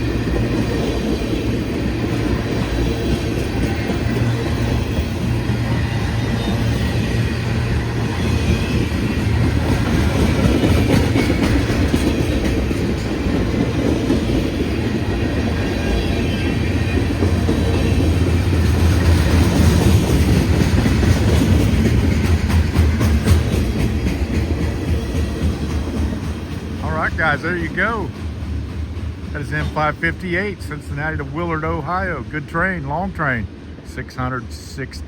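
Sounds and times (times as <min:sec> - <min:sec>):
clickety-clack over rail joints: 0:00.0 - 0:35.0
steel wheels rumbling on rails: 0:00.0 - 0:35.0.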